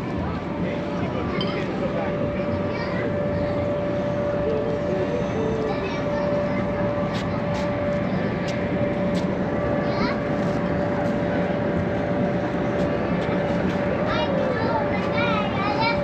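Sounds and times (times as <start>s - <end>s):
faint voices: 0.0s - 16.0s
steady mechanical drone: 0.0s - 16.0s.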